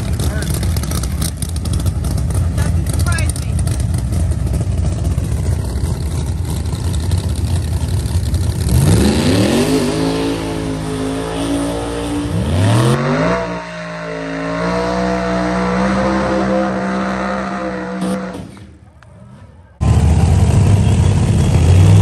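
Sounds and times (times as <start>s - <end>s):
race car engine revving: 0.0s - 18.8s
tires spinning: 0.0s - 22.0s.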